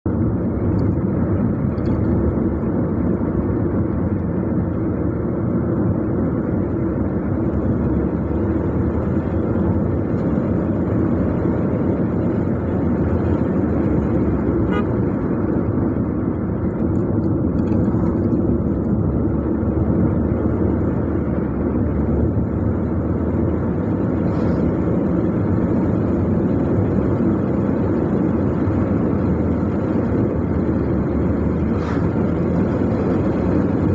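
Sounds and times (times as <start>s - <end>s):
car engine and road noise: 0.0s - 33.9s.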